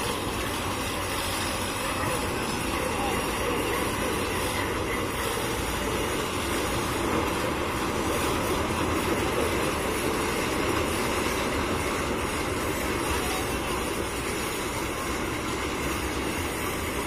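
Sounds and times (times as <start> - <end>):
train wagons running on rails: 0.0 - 17.0.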